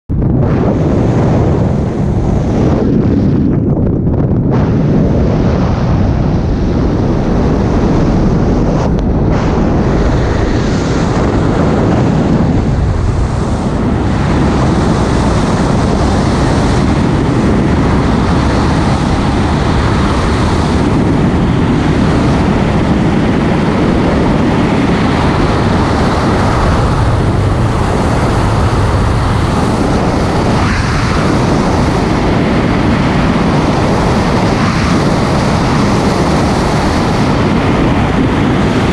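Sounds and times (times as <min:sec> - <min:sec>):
freefall wind buffeting microphone: 0:00.0 - 0:38.9.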